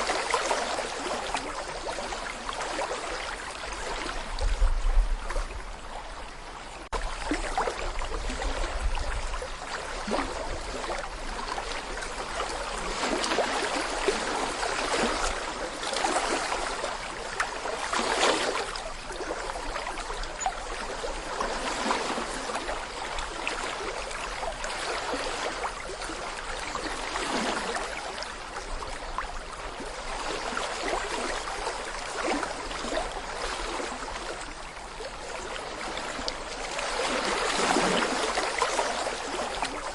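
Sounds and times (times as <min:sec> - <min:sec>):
brook babbling over stones: 0:00.0 - 0:39.9
wind rumble on microphone: 0:00.0 - 0:39.9.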